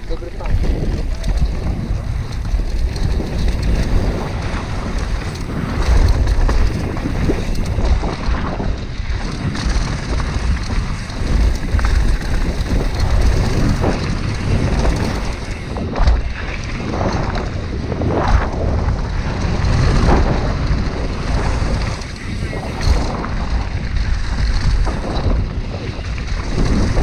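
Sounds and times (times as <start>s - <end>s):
bike rattling: 0.0s - 27.0s
wind buffeting microphone: 0.0s - 27.0s.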